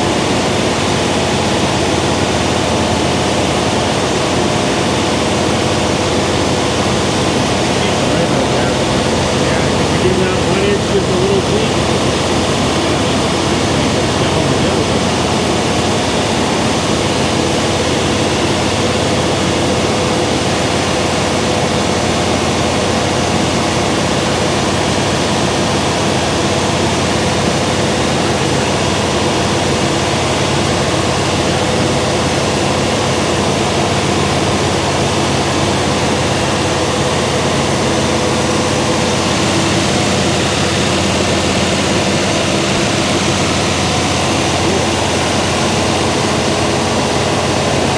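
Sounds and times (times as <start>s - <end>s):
mechanical running hum: 0.0s - 47.9s.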